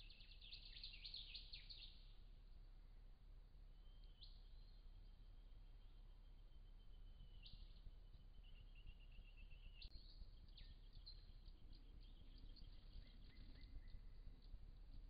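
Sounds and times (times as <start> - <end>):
small birds chirping: 0.0 - 2.2, 3.8 - 15.0
low background noise: 0.0 - 15.0.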